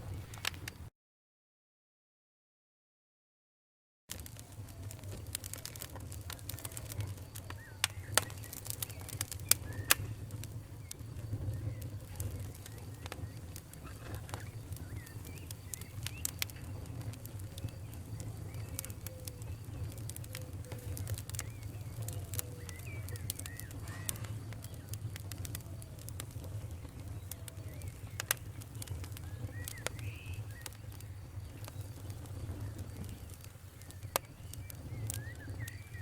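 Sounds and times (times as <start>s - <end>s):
wood fire crackling: 0.0s - 0.9s, 4.1s - 36.0s
faint whistling chirps: 4.4s - 36.0s.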